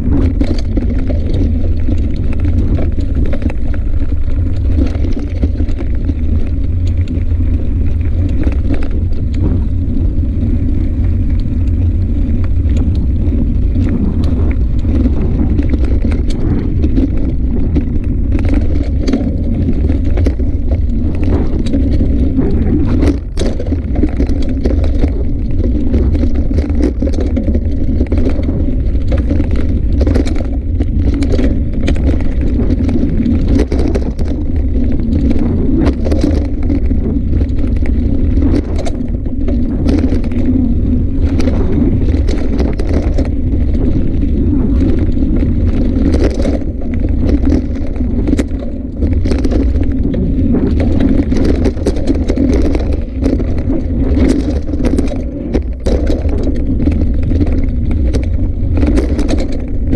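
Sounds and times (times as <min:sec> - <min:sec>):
bicycle rumbling on dirt trail: 0:00.0 - 0:59.9
knocks and rattles of bicycle: 0:00.0 - 0:59.9.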